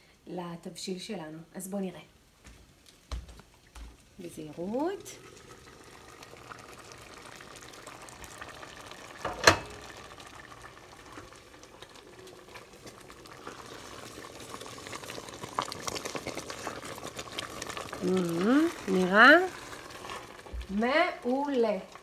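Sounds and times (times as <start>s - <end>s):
stew bubbling: 3.6s - 22.0s.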